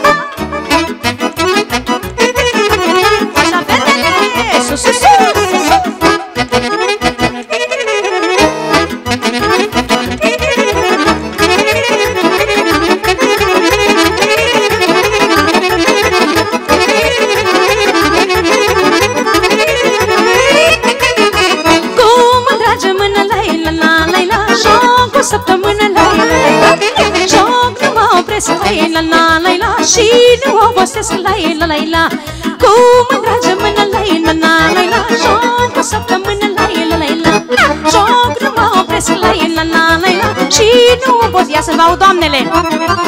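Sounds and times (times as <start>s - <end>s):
accordion: 0.0s - 43.0s
folk band playing dance music: 0.0s - 43.0s.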